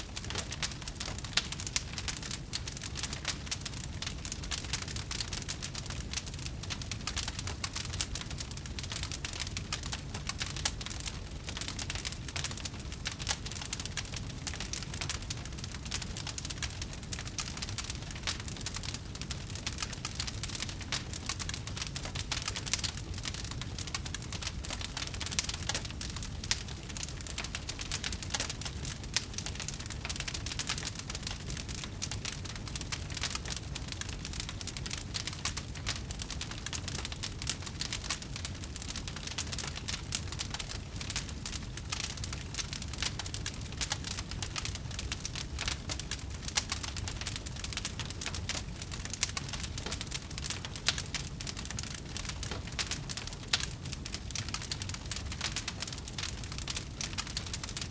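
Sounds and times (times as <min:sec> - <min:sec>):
campfire crackling: 0:00.0 - 0:57.9.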